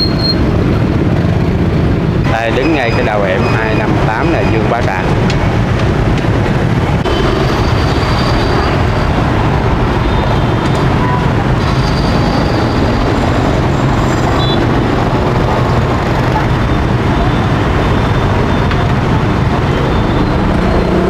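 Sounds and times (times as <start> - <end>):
motorbike traffic rumble: 0.0 - 21.0.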